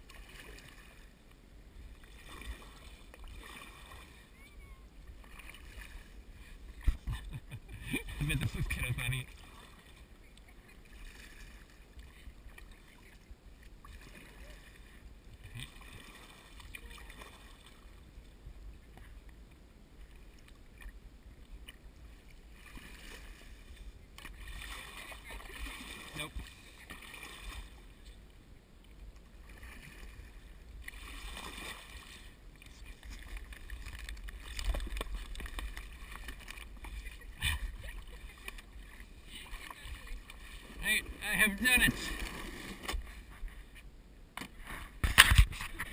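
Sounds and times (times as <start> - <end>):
kayak paddle splashing: 0.0 - 45.9.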